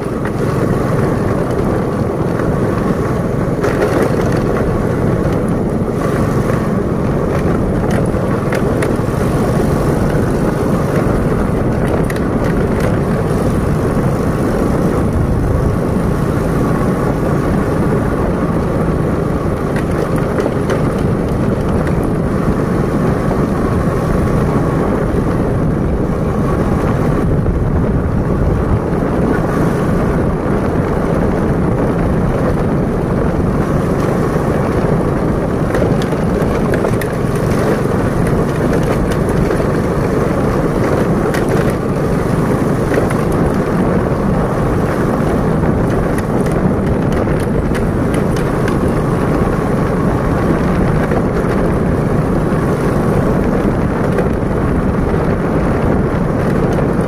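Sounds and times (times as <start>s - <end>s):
tyre noise on gravel road: 0.0s - 57.0s
vehicle engine running: 0.0s - 57.0s.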